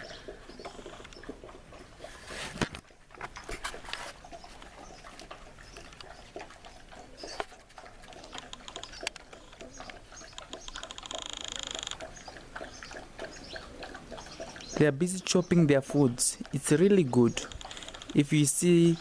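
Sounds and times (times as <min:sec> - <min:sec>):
dogs eating and chewing: 0:00.0 - 0:19.0.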